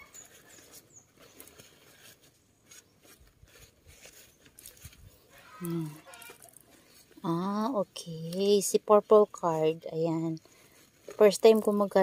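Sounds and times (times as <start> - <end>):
packing wrap rustling and crinkling: 0.0 - 7.6, 9.7 - 12.0.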